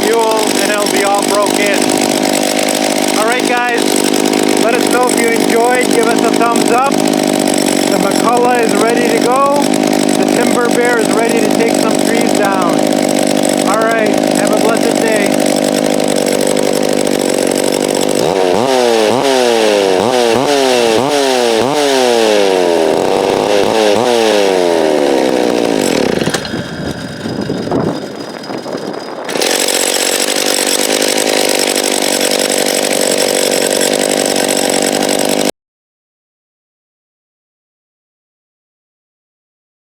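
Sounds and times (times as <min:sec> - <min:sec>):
chainsaw engine revving: 0:00.0 - 0:35.5.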